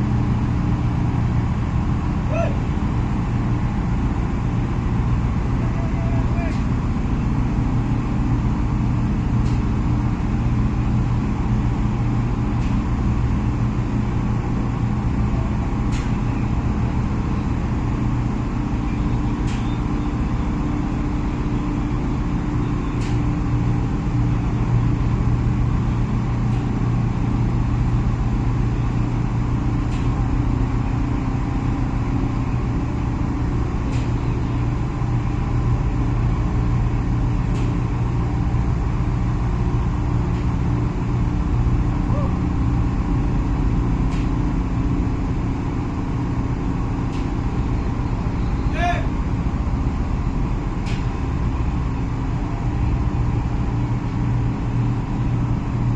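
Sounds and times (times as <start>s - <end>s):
boat diesel engine running: 0.0s - 55.9s.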